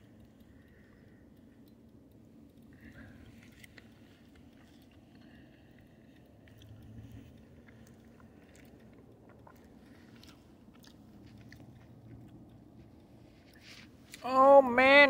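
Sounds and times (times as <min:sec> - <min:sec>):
faint chewing of spaghetti: 0:00.0 - 0:14.2.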